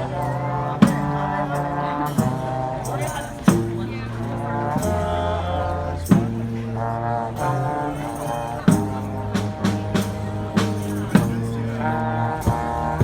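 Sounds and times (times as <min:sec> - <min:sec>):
street band of horns: 0:00.0 - 0:13.0.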